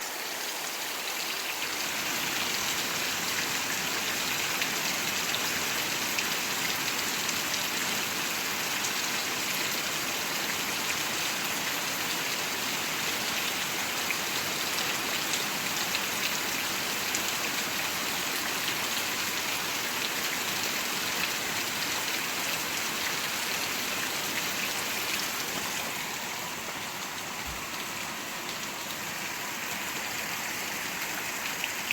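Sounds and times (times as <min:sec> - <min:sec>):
steady rain pattering: 0:00.0 - 0:31.9.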